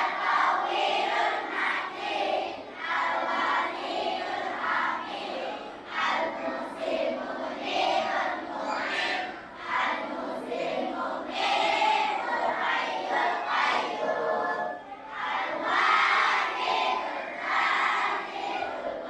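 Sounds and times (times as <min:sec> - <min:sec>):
children chanting in unison: 0:00.0 - 0:19.0.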